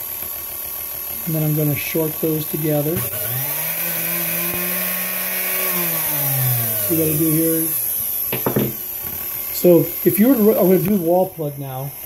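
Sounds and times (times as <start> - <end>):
stand mixer motor whining: 0.0 - 12.0.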